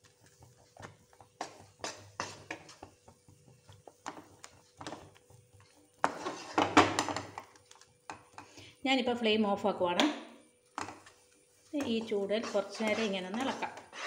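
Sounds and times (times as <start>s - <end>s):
wooden spatula scraping a pan: 0.0s - 8.5s, 10.7s - 14.0s.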